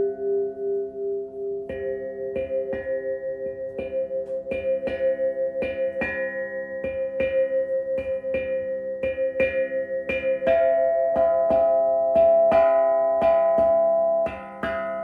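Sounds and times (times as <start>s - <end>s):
plucked notes over a drone: 0.0s - 15.0s.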